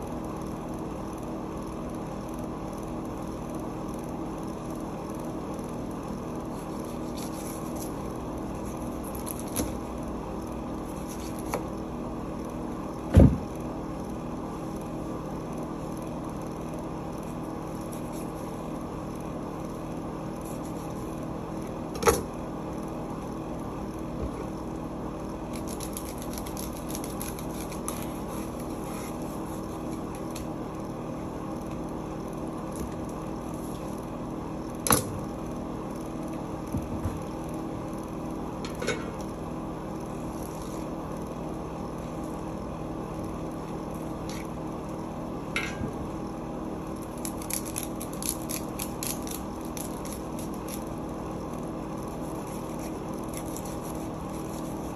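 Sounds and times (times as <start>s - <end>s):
kitchen machine hum: 0.0s - 54.9s.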